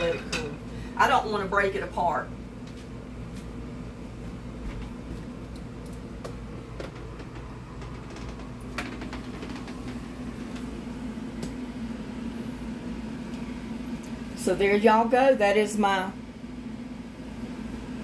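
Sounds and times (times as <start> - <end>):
fan humming: 0.0 - 18.0.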